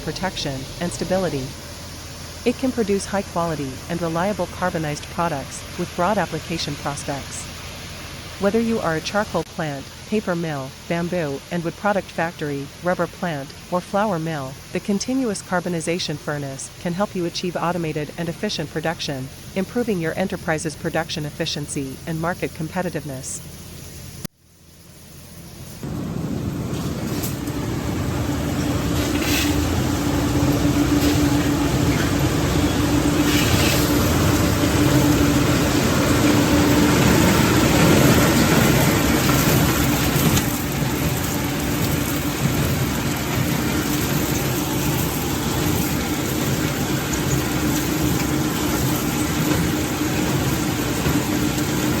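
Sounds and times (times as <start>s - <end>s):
industrial machinery hum: 0.0s - 52.0s.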